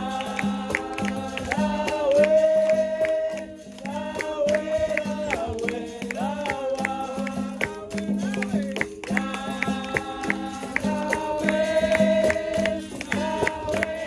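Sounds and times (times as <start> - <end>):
hand percussion beat: 0.0 - 14.0
person singing: 0.0 - 14.0.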